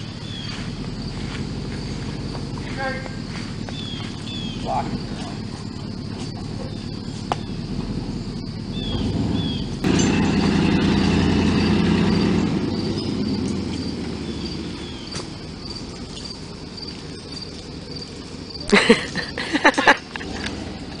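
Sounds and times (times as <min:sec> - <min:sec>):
insects chirping: 0:00.0 - 0:21.0
vehicle engine running: 0:00.0 - 0:21.0.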